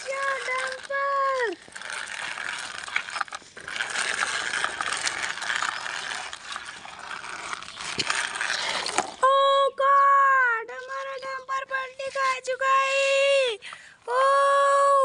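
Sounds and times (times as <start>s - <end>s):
toy truck rattling over stones: 0.0s - 13.8s.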